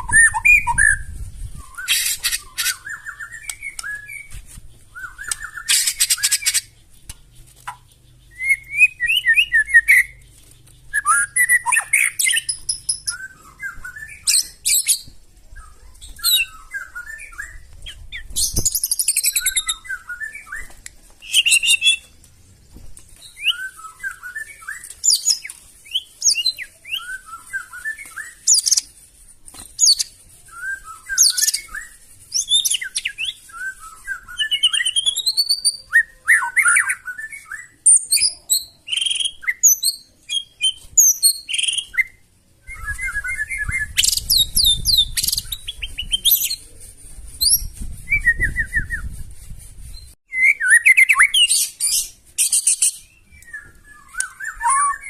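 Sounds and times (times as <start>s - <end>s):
songbird singing whistled phrases: 0.0s - 22.1s, 23.2s - 28.9s, 29.8s - 46.7s, 47.3s - 49.2s, 49.9s - 55.0s.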